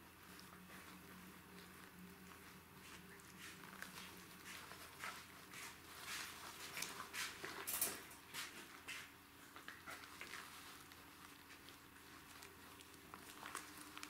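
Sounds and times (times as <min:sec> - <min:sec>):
puppies scuffling on a mat: 0:00.0 - 0:14.0.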